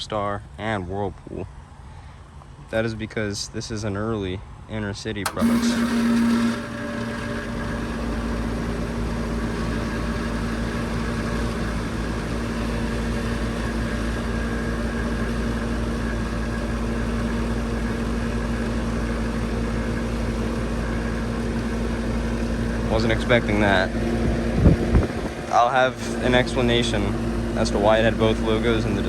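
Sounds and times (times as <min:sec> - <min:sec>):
air conditioner compressor hum: 0:04.8 - 0:29.0
condenser fan running: 0:05.2 - 0:29.0.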